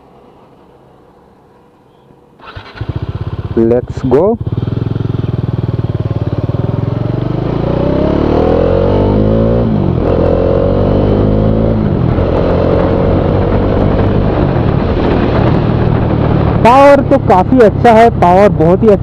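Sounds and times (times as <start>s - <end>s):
motorcycle engine accelerating: 2.4s - 19.0s.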